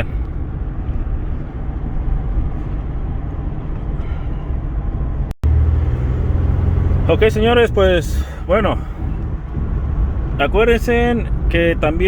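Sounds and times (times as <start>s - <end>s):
engine and road rumble in car: 0.0s - 12.0s.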